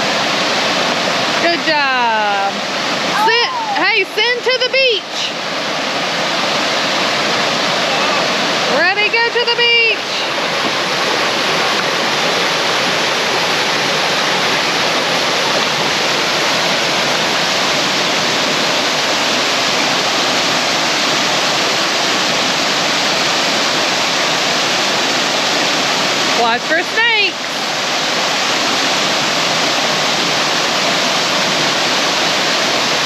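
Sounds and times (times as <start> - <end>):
creek and waterfall rushing: 0.0 - 33.0.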